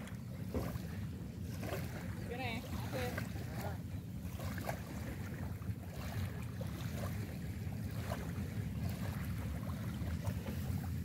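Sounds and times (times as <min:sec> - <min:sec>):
calm sea water splashing: 0:00.0 - 0:11.0.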